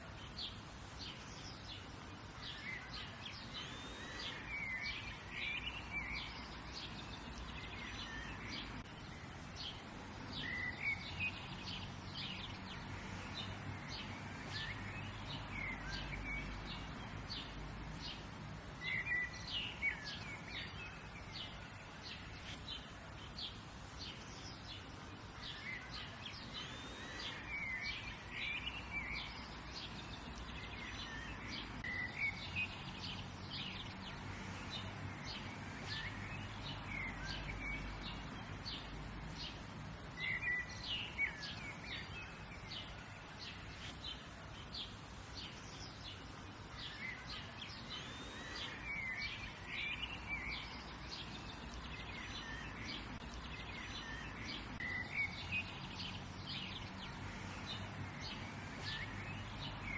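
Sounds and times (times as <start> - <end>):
birds chirping and calling: 0.2 - 59.9.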